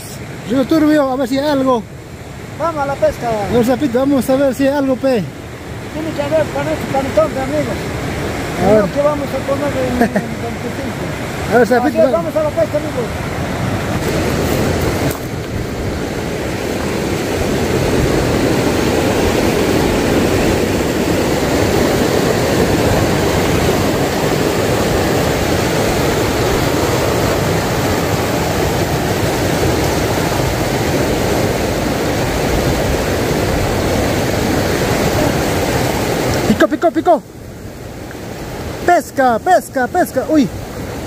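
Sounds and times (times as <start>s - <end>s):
river rushing through rapids: 0.0s - 41.0s.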